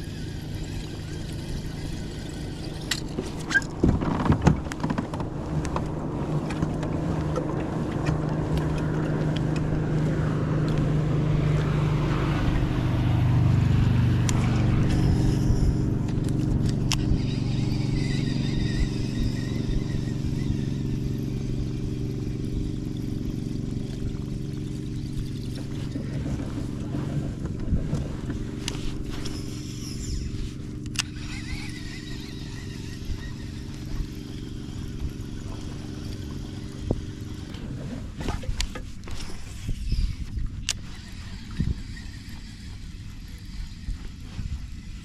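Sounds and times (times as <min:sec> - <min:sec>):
boat motor humming: 0:00.0 - 0:45.0.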